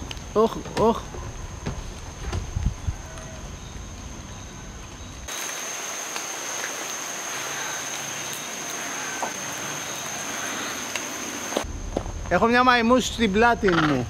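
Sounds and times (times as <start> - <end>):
steady hiss: 0.0 - 13.7.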